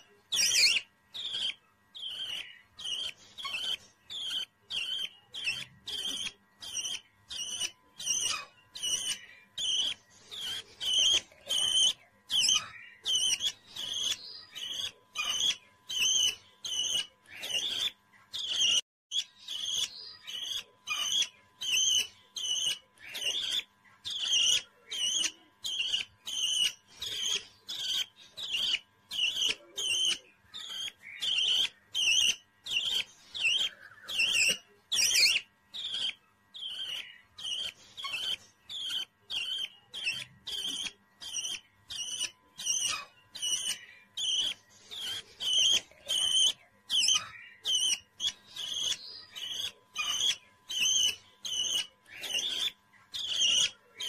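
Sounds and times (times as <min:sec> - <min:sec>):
budgerigar chirping: 0:00.0 - 0:54.0.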